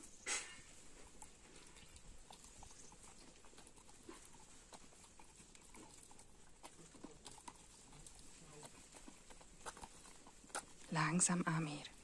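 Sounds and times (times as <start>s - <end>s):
dog licking and chewing: 0.7s - 12.0s.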